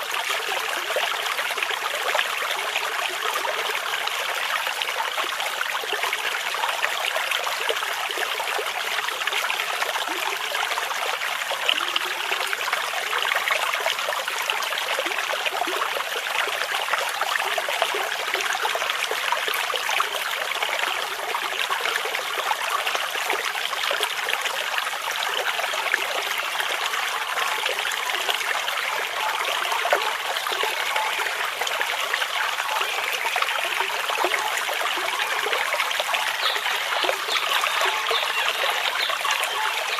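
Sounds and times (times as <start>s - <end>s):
brook flowing over stones: 0.0s - 39.9s.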